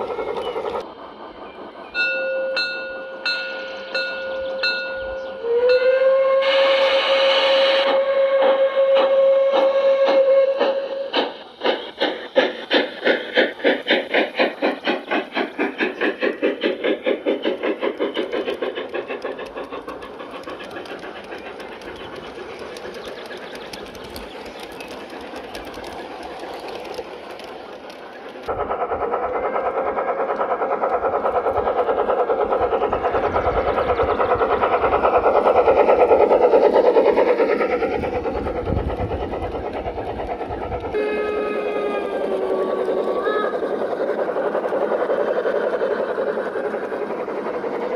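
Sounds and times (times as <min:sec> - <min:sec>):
model steam locomotive chuffing: 0:00.0 - 0:47.9
model train running on track: 0:00.0 - 0:47.9.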